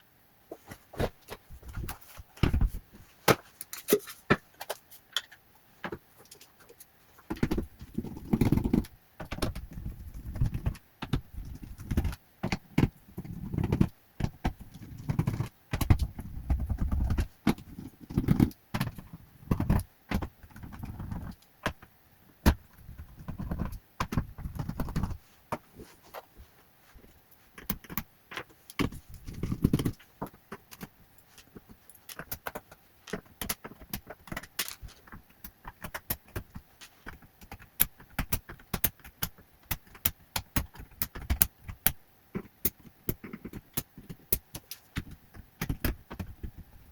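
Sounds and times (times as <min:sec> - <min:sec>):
rubbing and handling noise: 0:00.4 - 0:46.9.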